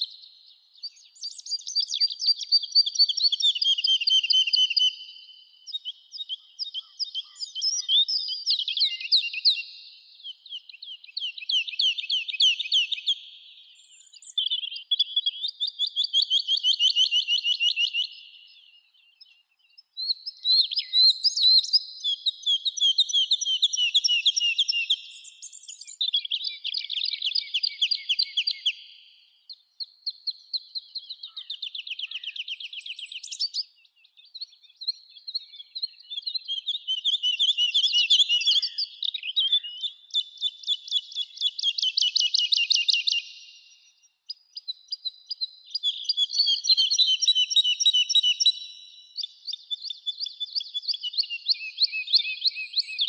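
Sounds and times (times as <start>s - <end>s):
songbirds trilling: 0.0s - 44.1s.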